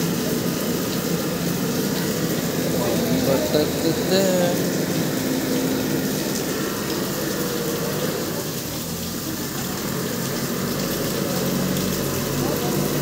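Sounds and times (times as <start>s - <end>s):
floodwater rushing: 0.0s - 13.0s
rain falling: 0.0s - 13.0s.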